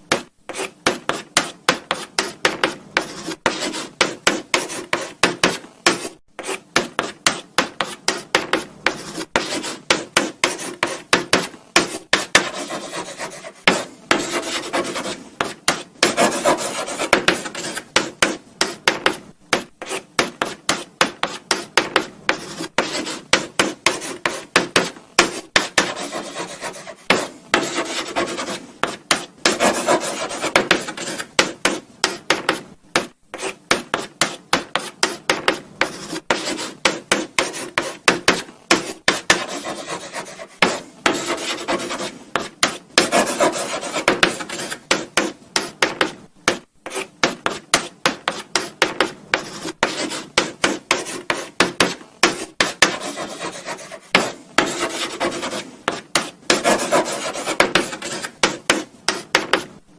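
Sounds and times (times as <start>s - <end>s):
chalk scratching on blackboard: 0.1s - 59.7s.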